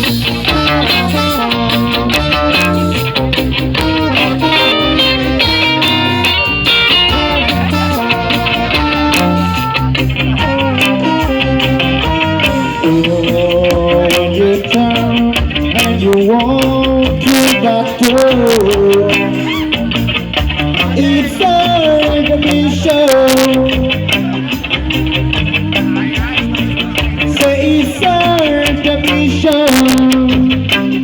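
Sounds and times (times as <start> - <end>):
guitar-led song with drums: 0.0 - 31.0
person singing: 3.8 - 31.0.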